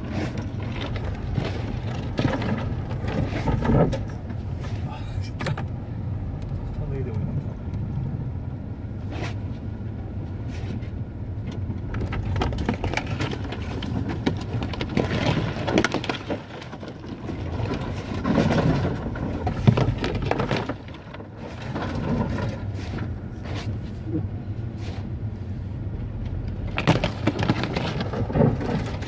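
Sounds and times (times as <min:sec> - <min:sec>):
car cabin rumble: 0:00.0 - 0:29.0.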